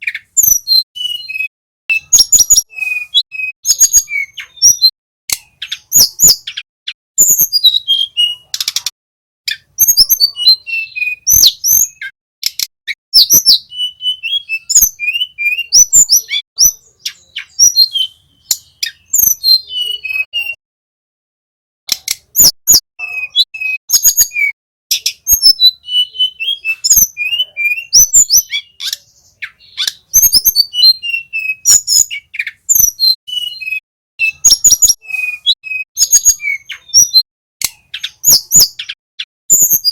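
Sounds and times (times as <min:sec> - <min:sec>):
bird singing whistles and trills: 0:00.0 - 0:08.9, 0:09.5 - 0:20.6, 0:22.3 - 0:39.9.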